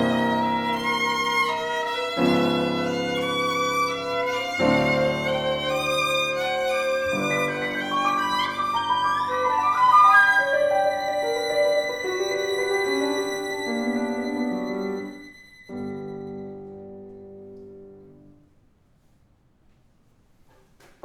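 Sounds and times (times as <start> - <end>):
violin: 0.0 - 17.2
piano: 0.0 - 18.6.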